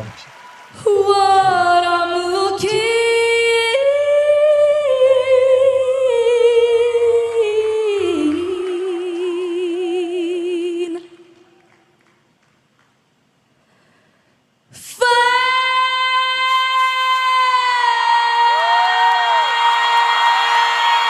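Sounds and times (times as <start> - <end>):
woman singing with vibrato: 0.8 - 11.6, 14.7 - 21.0.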